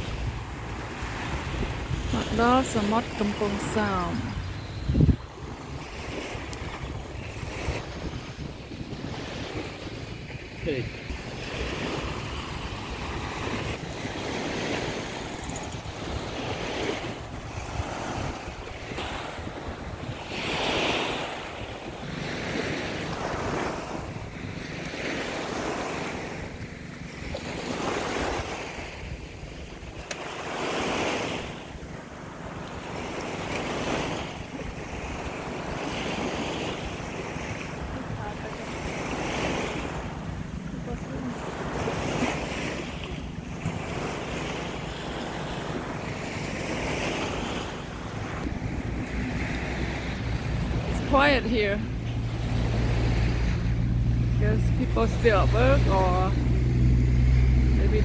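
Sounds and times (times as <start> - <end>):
small waves washing on sand: 0.0 - 58.0
wind rumble on microphone: 0.0 - 58.0.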